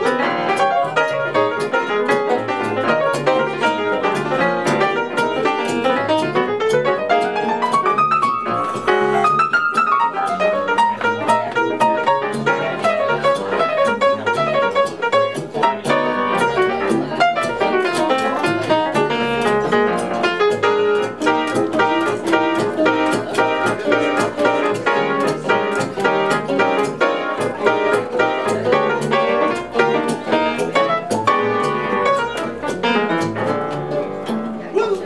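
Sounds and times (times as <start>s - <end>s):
bass line: 0.0s - 34.8s
jazz trio playing: 0.0s - 35.0s.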